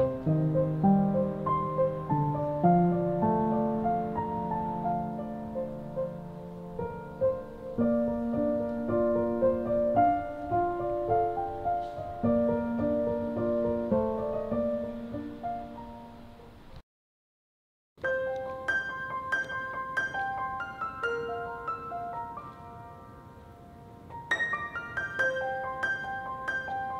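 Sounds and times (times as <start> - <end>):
piano music: 0.0 - 16.8, 18.0 - 26.9.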